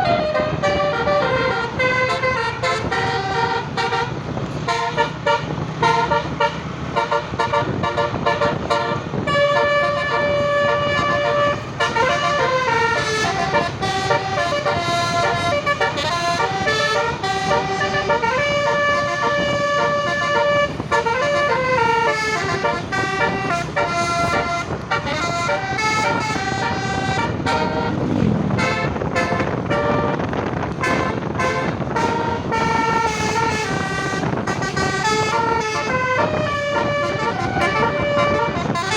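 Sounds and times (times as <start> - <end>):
bus engine rumble: 0.0 - 38.9
bus multi-tone horn tune: 0.0 - 38.9.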